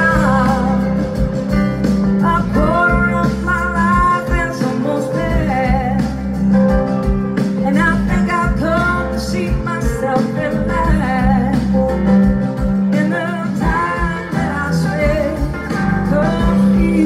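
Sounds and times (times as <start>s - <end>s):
woman singing: 0.0s - 1.3s, 2.2s - 6.4s, 7.6s - 12.0s, 12.9s - 17.0s
live rock band playing: 0.0s - 17.0s.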